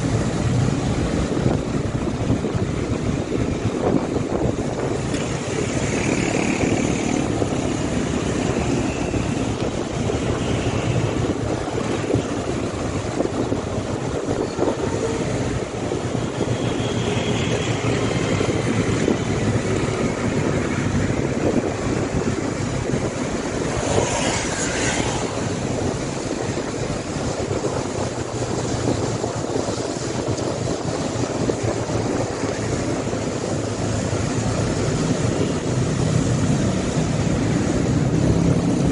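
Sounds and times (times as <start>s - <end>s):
motorcycle engine drone: 0.0s - 38.9s
road noise: 0.0s - 38.9s.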